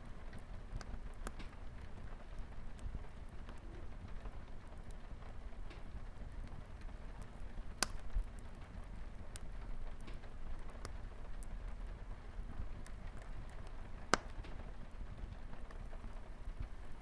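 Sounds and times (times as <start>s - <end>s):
light rain on a window: 0.0s - 17.0s
wood fire crackling and popping: 0.0s - 17.0s.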